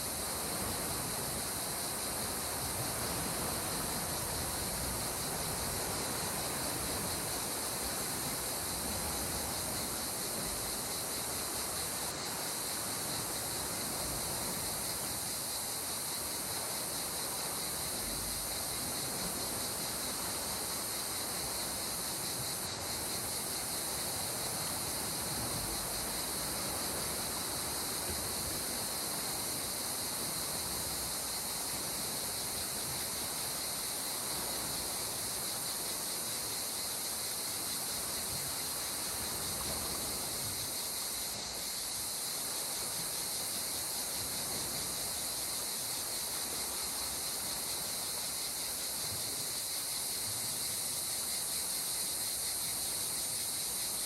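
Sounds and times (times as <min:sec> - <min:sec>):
calm sea water hiss: 0:00.0 - 0:54.0.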